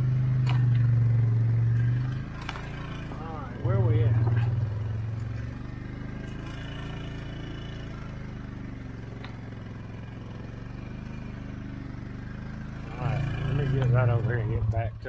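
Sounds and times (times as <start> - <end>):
atv engine running in low gear: 0.0 - 15.0.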